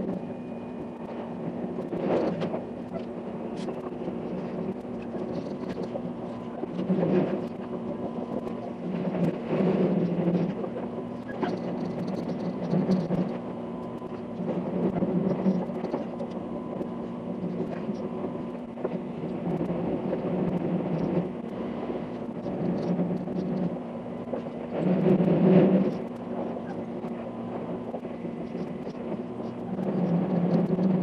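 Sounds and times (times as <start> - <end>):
faint steady whir: 0.0 - 31.0
train rumbling: 0.0 - 31.0.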